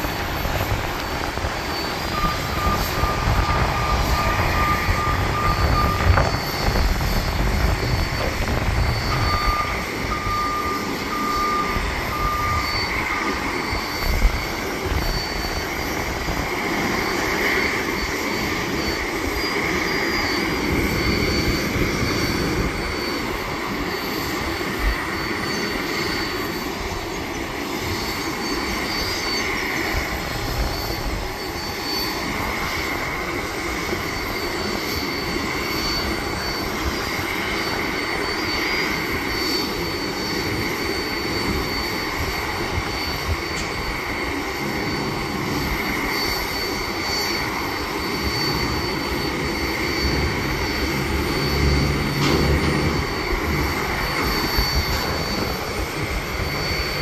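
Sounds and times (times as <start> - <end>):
jet aircraft noise: 0.0 - 57.0
thin high whine: 0.0 - 57.0
wind buffeting microphone: 0.0 - 57.0.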